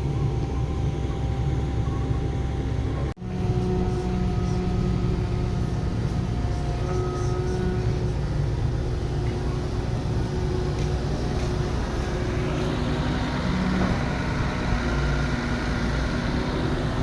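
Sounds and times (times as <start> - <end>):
diesel construction machinery rumbling: 0.0 - 17.0.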